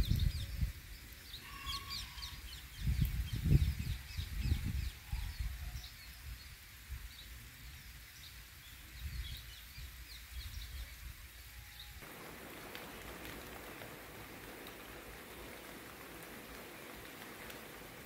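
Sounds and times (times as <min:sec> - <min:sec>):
rain falling: 0:00.0 - 0:18.0
small birds chirping: 0:00.0 - 0:18.0.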